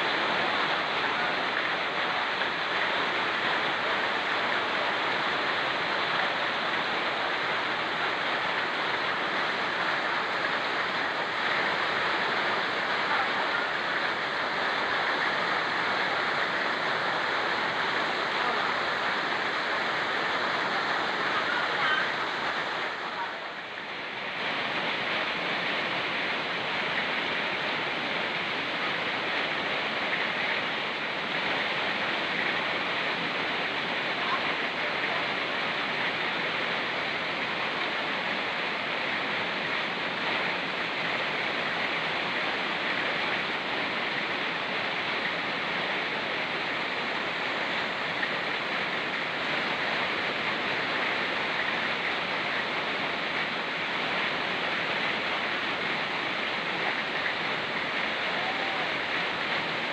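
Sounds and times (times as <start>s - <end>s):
rain falling in forest: 0.0s - 59.9s
river rushing: 0.0s - 59.9s.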